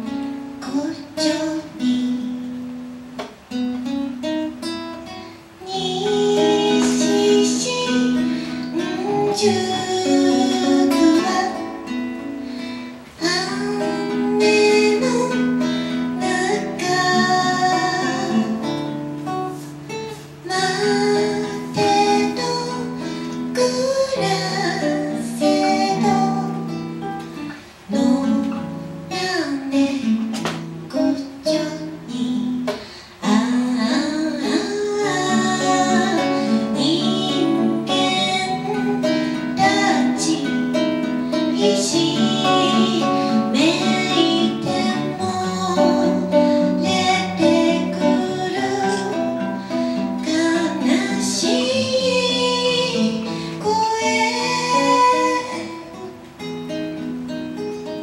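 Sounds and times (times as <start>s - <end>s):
woman singing into a microphone: 0.0s - 2.7s, 4.5s - 56.4s
acoustic guitar: 0.0s - 58.0s.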